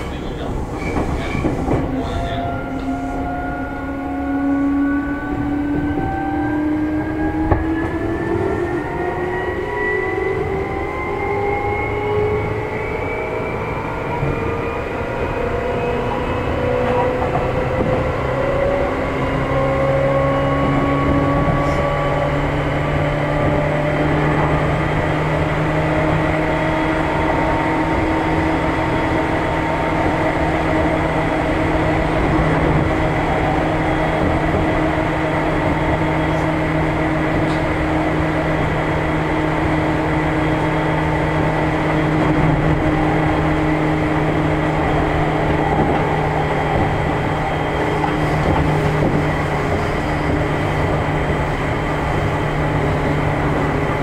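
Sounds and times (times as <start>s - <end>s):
train motor hum: 0.0s - 54.0s
wheel and rail rumble: 0.0s - 54.0s.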